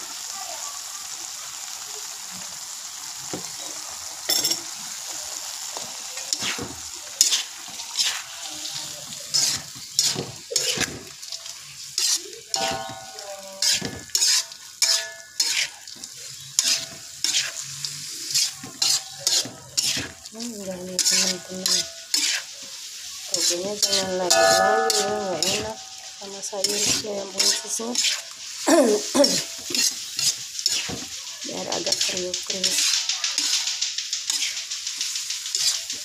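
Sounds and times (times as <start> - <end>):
food sizzling in a wok: 0.0 - 36.0
metal spatula scraping a pan: 6.3 - 36.0.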